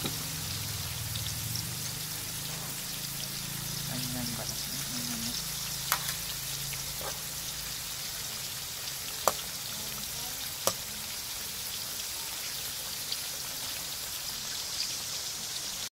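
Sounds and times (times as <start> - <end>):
meat sizzling in hot oil: 0.0 - 15.9.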